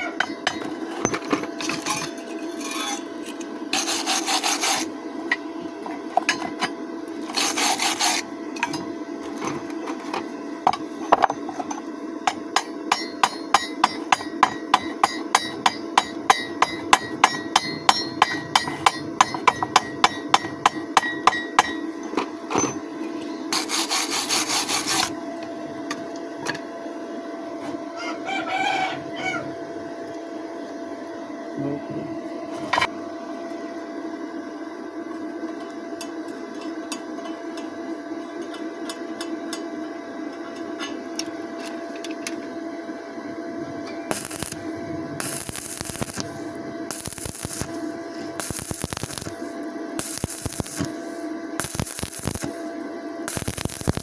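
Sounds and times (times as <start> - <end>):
steady hum: 0.0 - 28.3, 28.9 - 54.0.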